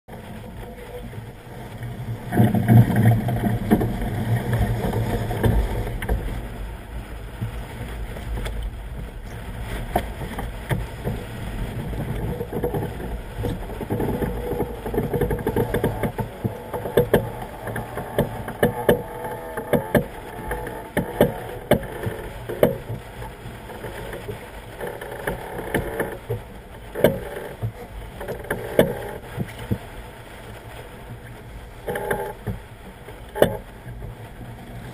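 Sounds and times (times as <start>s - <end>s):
water rushing along hull: 0.1s - 34.9s.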